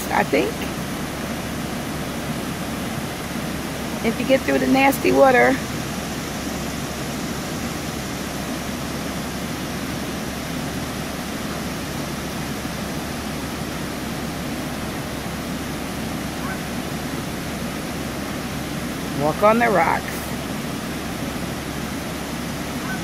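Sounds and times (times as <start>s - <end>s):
water pouring over waterfall: 0.0s - 22.8s.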